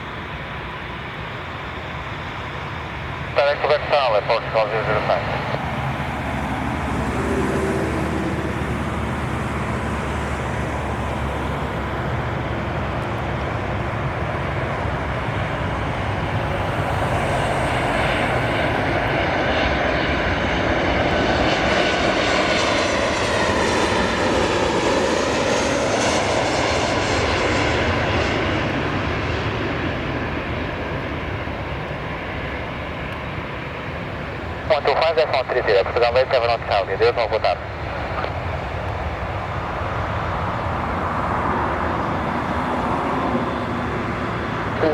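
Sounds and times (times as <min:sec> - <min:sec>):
engine whine: 0:00.0 - 0:44.9
jet engines roaring: 0:00.0 - 0:44.9.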